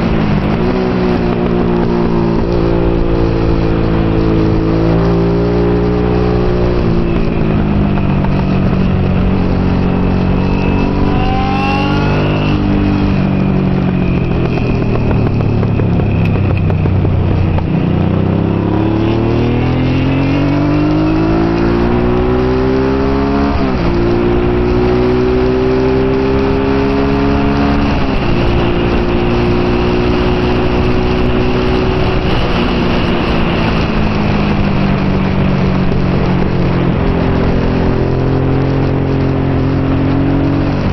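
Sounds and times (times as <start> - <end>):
motorcycle engine revving: 0.0 - 40.9
wind rush: 0.0 - 40.9.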